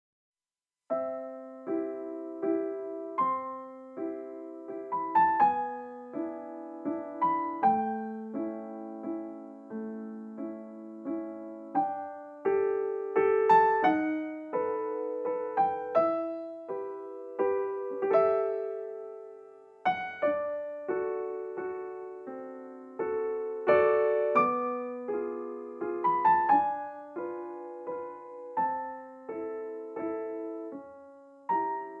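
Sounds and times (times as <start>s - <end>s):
gentle piano music: 0.9s - 32.0s.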